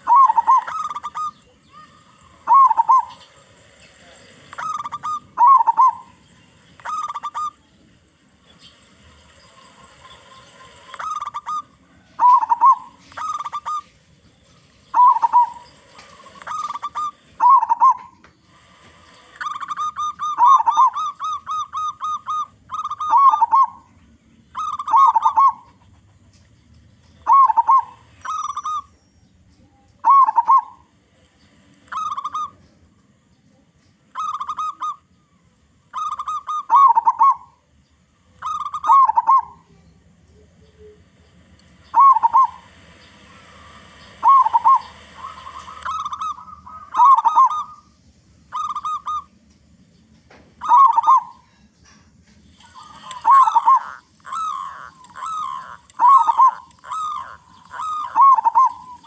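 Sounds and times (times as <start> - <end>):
dove cooing: 0.0 - 26.5, 27.1 - 29.0, 29.8 - 32.9, 33.5 - 49.4, 50.3 - 59.0.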